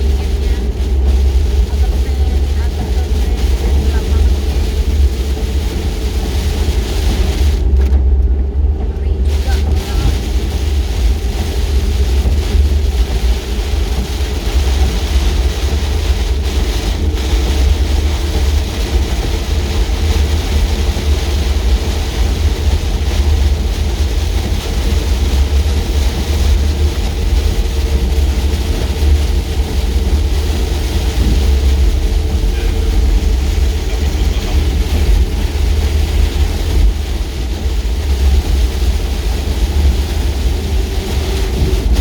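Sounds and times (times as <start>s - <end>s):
vehicle road rumble: 0.0s - 42.0s.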